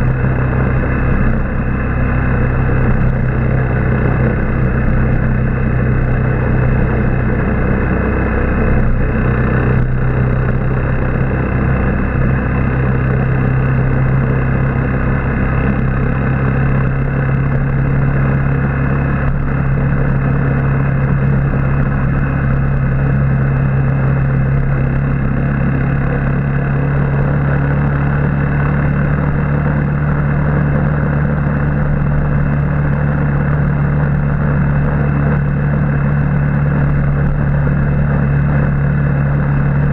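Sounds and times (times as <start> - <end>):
motorbike engine drone: 0.0 - 39.9
road and air noise: 0.0 - 39.9.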